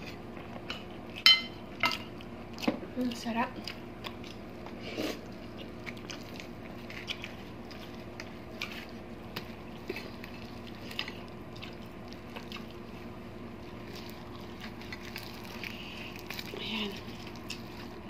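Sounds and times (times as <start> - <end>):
chewing: 0.0 - 18.0
faint steady hum: 0.0 - 18.0.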